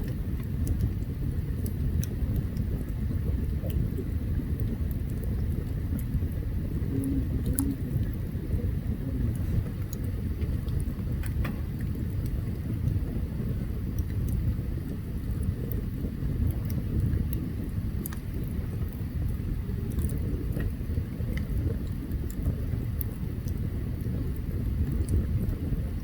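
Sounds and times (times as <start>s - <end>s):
campfire crackles and pops: 0.0s - 26.0s
low rumble of fire: 0.0s - 26.0s.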